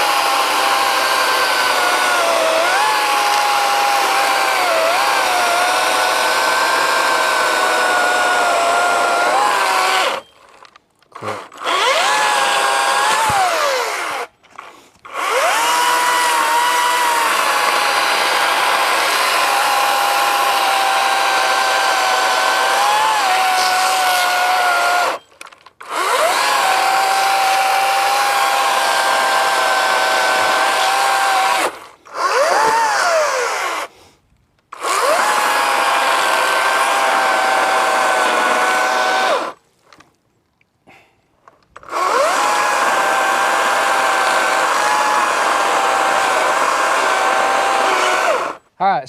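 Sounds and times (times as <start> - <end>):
electric chainsaw whining: 0.0 - 33.9, 34.7 - 39.6, 41.8 - 48.7.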